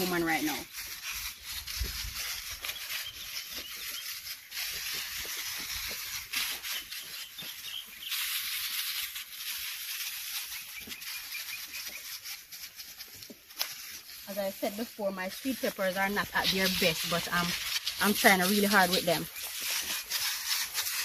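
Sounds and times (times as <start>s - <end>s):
sprayer nozzle hissing: 0.0s - 21.0s
steps rustling through plants: 0.0s - 21.0s.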